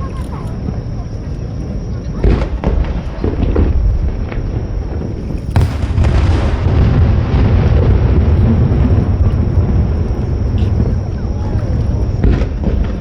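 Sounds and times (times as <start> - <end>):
low rumble of fireworks booms: 0.0 - 13.0
small fireworks cracks: 0.0 - 13.0
fireworks bang: 2.1 - 13.0.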